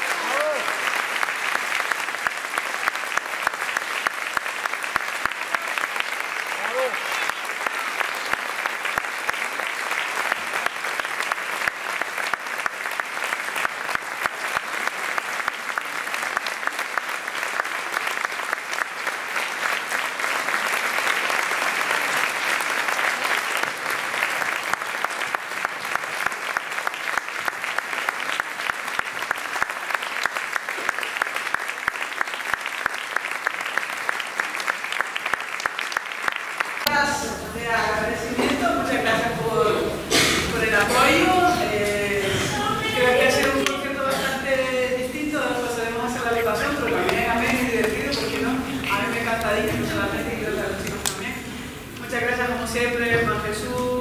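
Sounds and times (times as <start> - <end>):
audience applauding: 0.0 - 37.4, 38.1 - 54.0.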